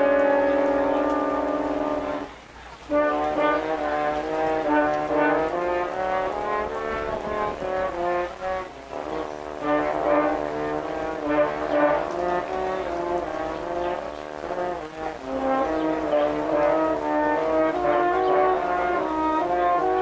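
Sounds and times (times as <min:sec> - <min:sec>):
french horns playing in harmony: 0:00.0 - 0:20.0.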